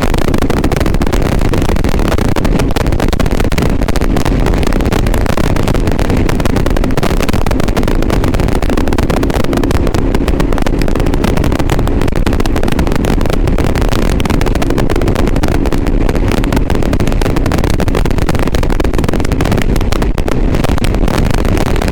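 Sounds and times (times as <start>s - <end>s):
crackling distortion: 0.0s - 21.9s
motorcycle engine rumble: 0.0s - 21.9s
wind noise: 0.0s - 21.9s.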